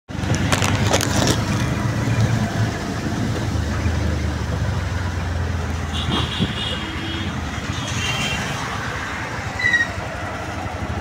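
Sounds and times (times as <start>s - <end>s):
auto-rickshaw engine running: 0.1s - 11.0s.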